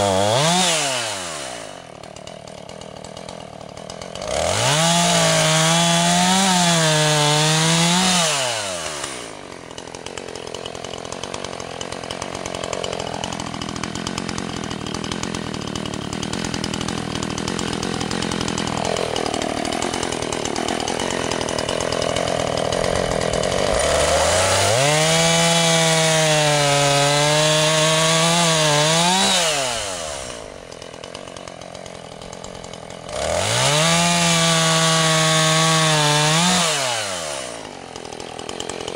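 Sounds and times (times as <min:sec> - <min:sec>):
chainsaw cutting log: 0:00.0 - 0:38.9
chainsaw idling: 0:00.0 - 0:38.9.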